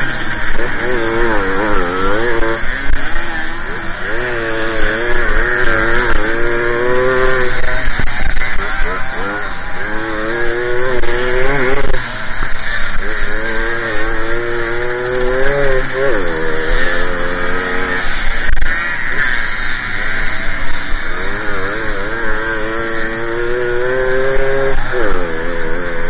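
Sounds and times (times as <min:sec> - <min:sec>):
moped engine revving: 0:00.0 - 0:26.0
steady rushing noise: 0:00.0 - 0:26.0.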